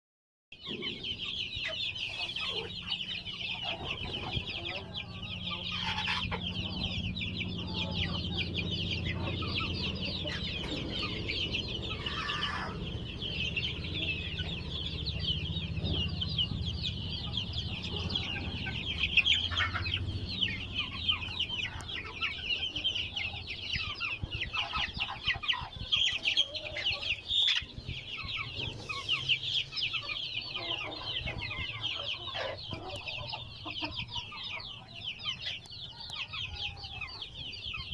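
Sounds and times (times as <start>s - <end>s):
chickens clucking: 0.6s - 37.9s
steady low hum: 0.8s - 35.6s.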